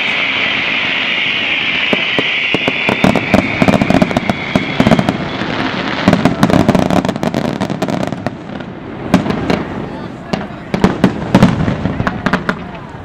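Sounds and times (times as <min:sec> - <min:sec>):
firework hissing: 0:00.0 - 0:13.0
fireworks crackling and banging: 0:00.0 - 0:13.0.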